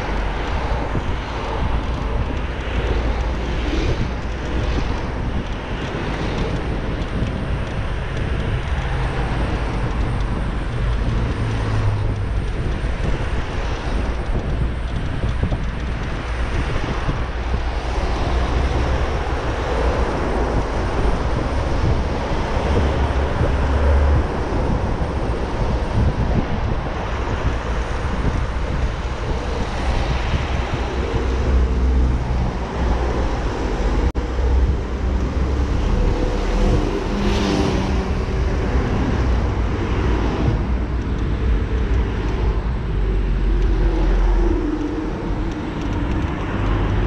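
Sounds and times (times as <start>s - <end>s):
car traffic noise: 0.0s - 47.0s
deep rumble: 0.0s - 47.0s
wind rush on microphone: 0.0s - 47.0s.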